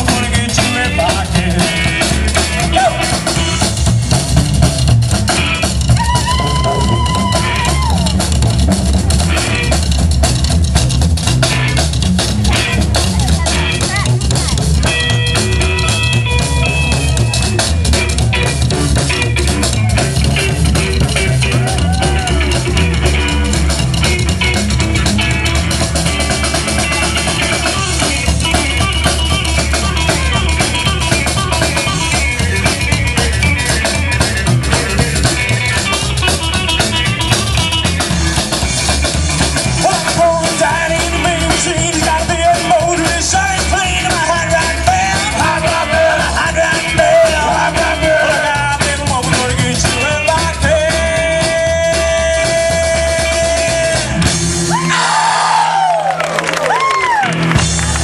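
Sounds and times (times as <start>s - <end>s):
live rockabilly band playing: 0.0s - 58.0s.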